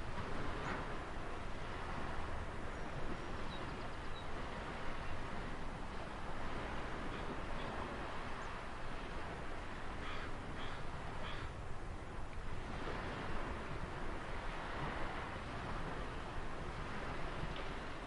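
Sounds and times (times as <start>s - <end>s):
ocean waves on shore: 0.0s - 18.0s.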